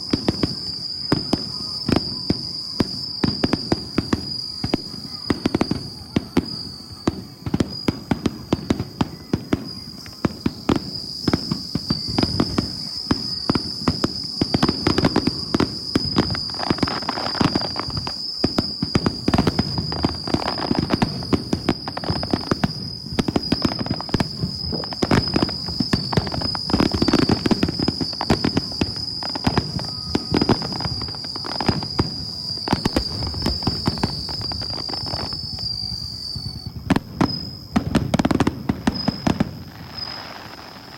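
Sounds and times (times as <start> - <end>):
fireworks crackling and booming: 0.0 - 40.9.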